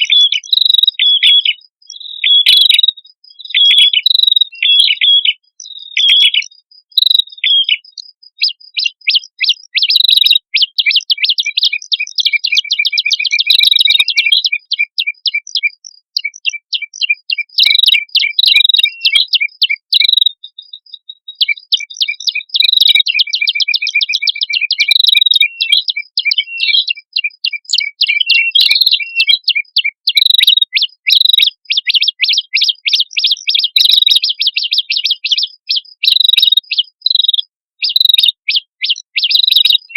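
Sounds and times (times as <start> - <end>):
birds singing chattering trills: 0.0 - 39.9.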